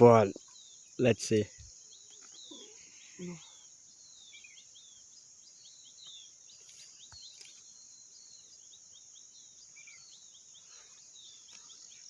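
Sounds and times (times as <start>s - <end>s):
falling bird chirps: 0.0s - 12.0s.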